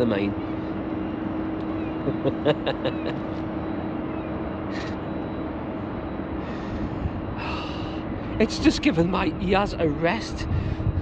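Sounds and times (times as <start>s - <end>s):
distant engine hum: 0.0s - 11.0s.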